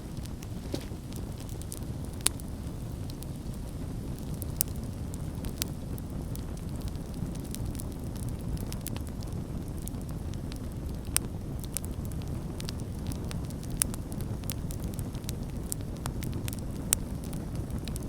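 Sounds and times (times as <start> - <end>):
campfire low rumble: 0.0 - 18.0
fire crackles and pops: 0.0 - 18.0.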